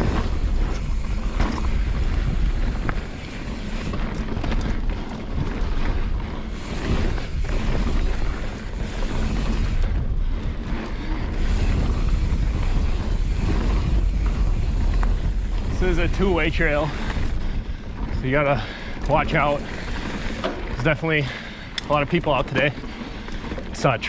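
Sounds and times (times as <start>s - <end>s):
wind rushing over microphone: 0.0s - 21.2s
bike tyres rolling on dirt: 0.0s - 24.0s.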